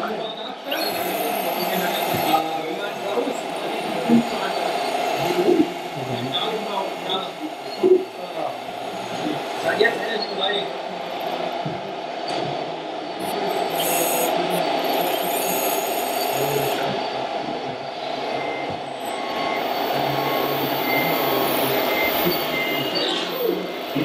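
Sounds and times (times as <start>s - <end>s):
high-pitched motor whine: 0.0s - 24.0s
model excavator mechanical hum: 0.0s - 24.0s.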